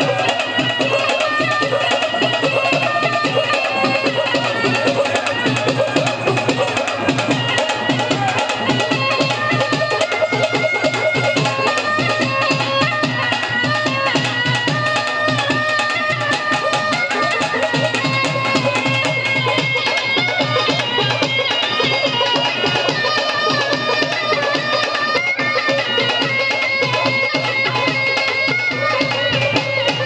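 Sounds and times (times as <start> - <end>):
held melodic lines: 0.0 - 29.4
fast hand-drum percussion: 0.0 - 30.0.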